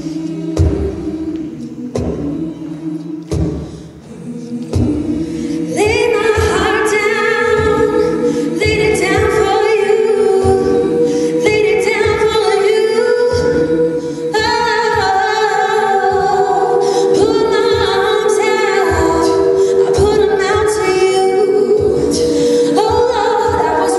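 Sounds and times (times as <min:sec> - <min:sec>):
vocal percussion beat: 0:00.0 - 0:23.9
women singing in close harmony: 0:00.0 - 0:23.9.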